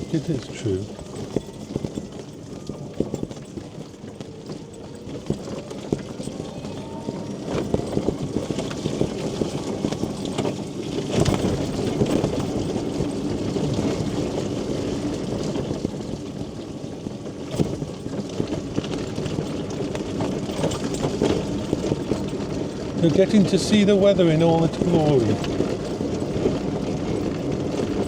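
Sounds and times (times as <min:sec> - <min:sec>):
scooter motor and tyres rumbling: 0:00.0 - 0:28.0.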